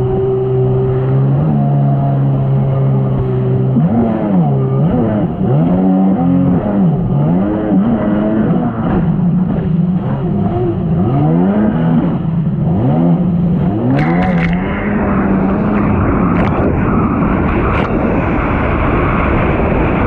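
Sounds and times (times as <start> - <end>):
jet ski engine revving: 0.0 - 20.0.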